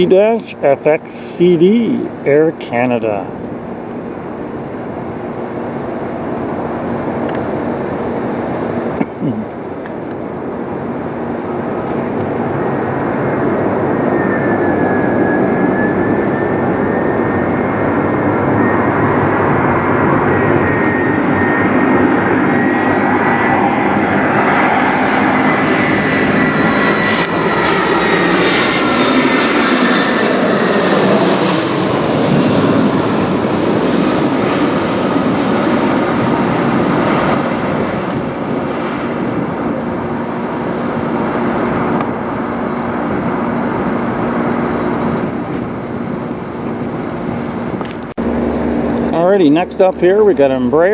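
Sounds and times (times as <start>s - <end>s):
jet airliner passing overhead: 0.0s - 50.9s.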